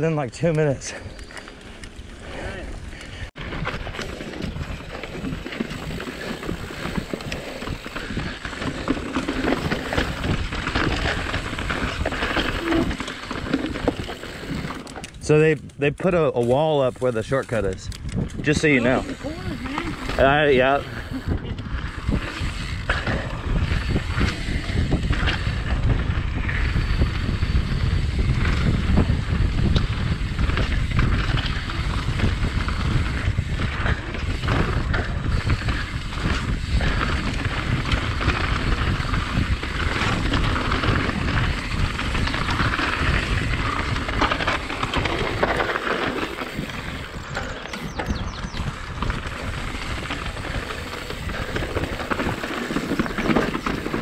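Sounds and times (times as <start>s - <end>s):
bike rattling: 0.0s - 54.0s
wind buffeting microphone: 0.0s - 54.0s
tyres rolling over rough ground: 0.3s - 16.2s, 16.8s - 54.0s.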